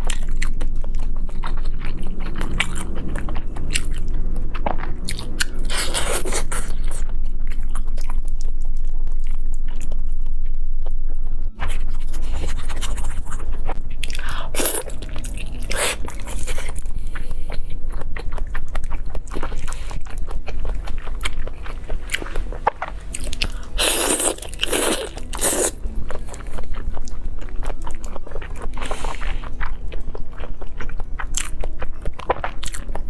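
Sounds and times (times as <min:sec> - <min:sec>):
chewing crunchy food: 0:00.0 - 0:11.0, 0:11.6 - 0:33.0.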